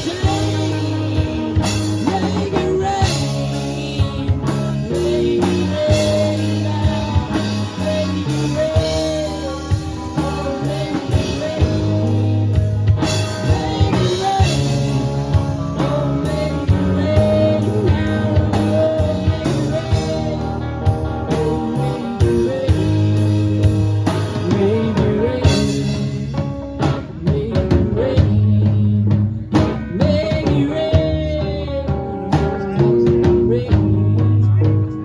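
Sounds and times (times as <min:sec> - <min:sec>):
bending lead guitar melody: 0:00.0 - 0:35.0
blues-rock band playing: 0:00.0 - 0:35.0
drum kit steady beat: 0:00.0 - 0:35.0.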